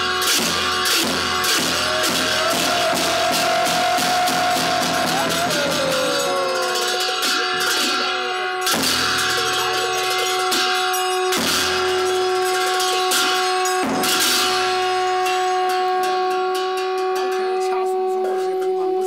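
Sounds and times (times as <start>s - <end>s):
frame drum beats: 0.0s - 17.6s
cymbals crashing and ringing: 0.0s - 19.0s
long held wind instrument tone: 0.0s - 19.0s.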